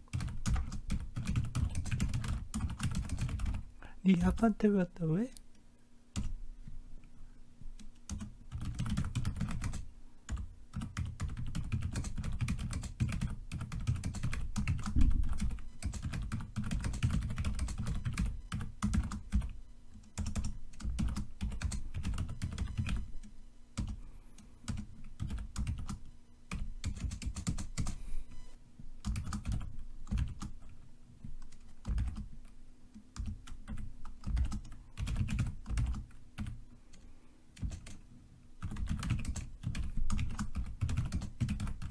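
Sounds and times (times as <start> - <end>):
keyboard typing: 0.1 - 4.6, 6.2 - 6.4, 7.8 - 28.4, 29.0 - 38.0, 38.6 - 41.9.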